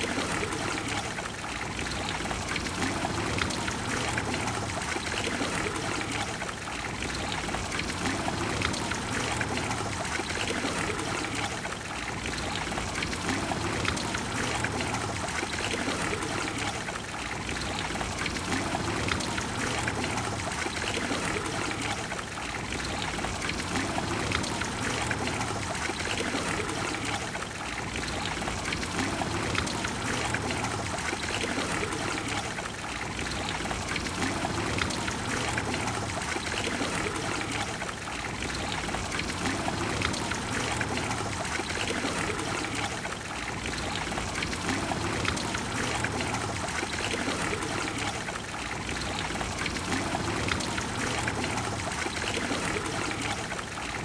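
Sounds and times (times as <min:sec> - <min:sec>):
fountain water splashing into basin: 0:00.0 - 0:54.0.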